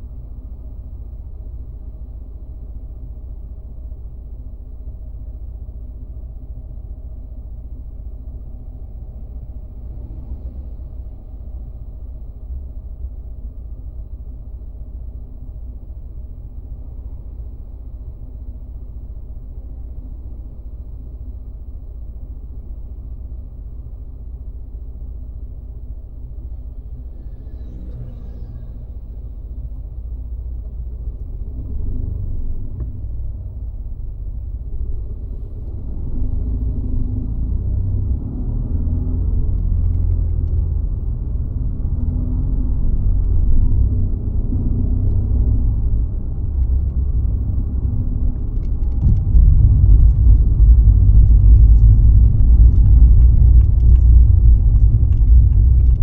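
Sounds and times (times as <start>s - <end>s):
car driving rumble from inside: 0.0s - 56.0s.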